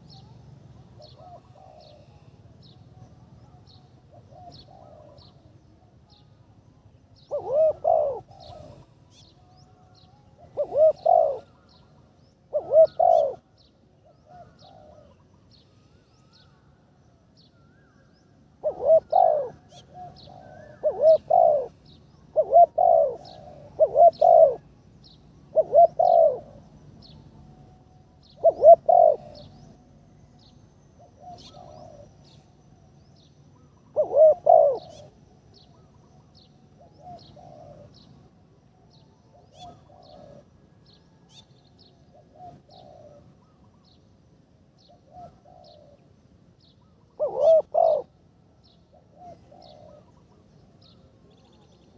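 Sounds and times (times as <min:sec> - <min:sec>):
dove cooing: 0:00.0 - 0:05.4, 0:07.2 - 0:15.3, 0:18.6 - 0:30.3, 0:31.0 - 0:32.7, 0:33.6 - 0:43.9, 0:44.8 - 0:46.1, 0:46.8 - 0:51.9.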